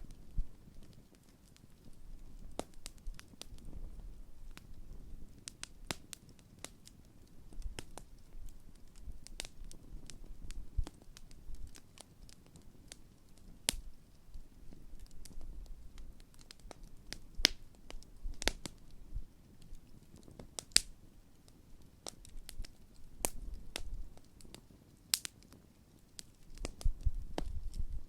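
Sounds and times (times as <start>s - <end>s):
campfire pops and crackles: 0.0s - 28.0s
low rumble of flames: 0.0s - 28.0s.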